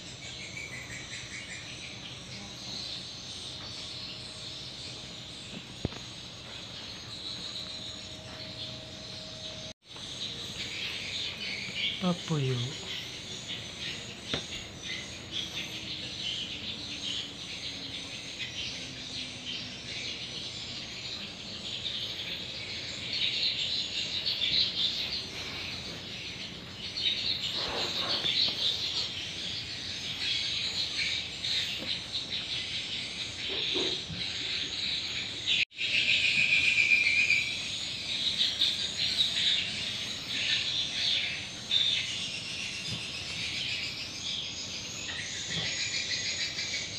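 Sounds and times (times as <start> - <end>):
birds chirping: 0.0 - 46.9
insects chirping: 0.0 - 46.9.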